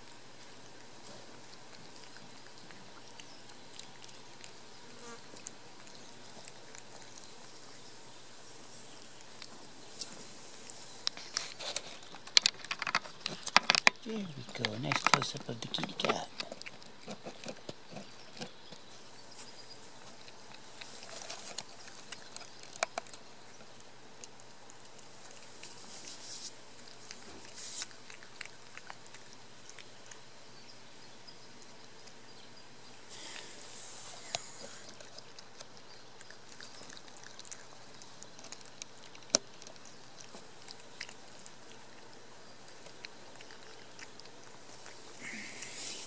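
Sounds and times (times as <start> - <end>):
cat chewing and licking: 0.0 - 46.0.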